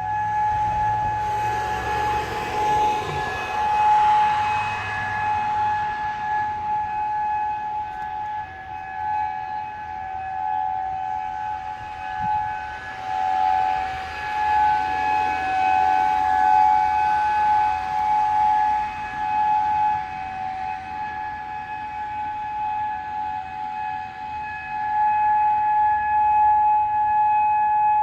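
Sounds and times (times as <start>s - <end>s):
warning siren steady tone: 0.0s - 28.0s.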